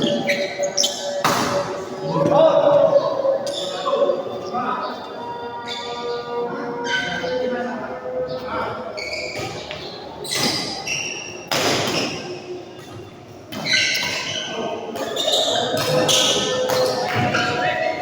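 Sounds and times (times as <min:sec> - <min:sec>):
shoes squeaking on floor: 0:00.0 - 0:18.0.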